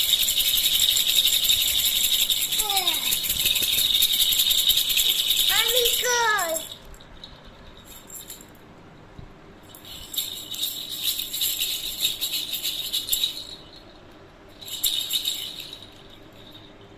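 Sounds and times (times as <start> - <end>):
baby's rattle toy jingling: 0.0 - 8.6, 9.6 - 16.9.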